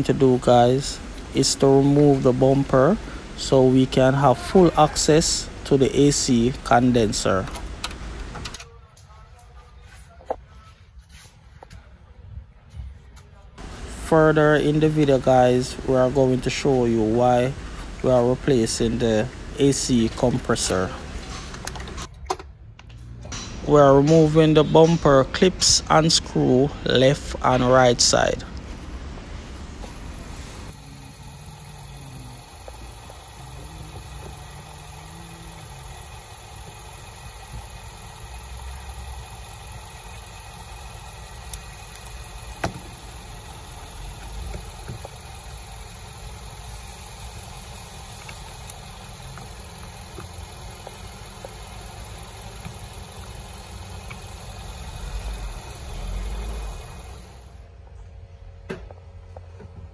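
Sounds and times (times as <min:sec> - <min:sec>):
engine idling: 0:00.0 - 0:08.5, 0:13.6 - 0:22.1, 0:23.4 - 0:57.7.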